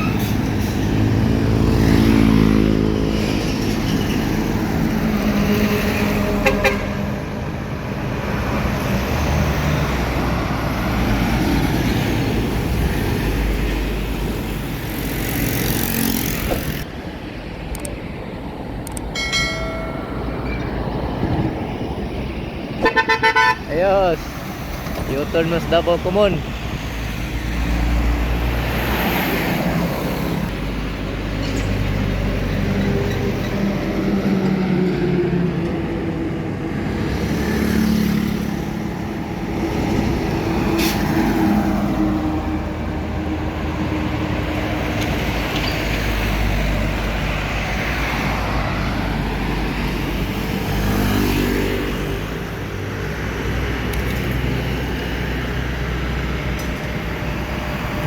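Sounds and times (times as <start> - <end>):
cars and trucks driving past: 0.0 - 58.0.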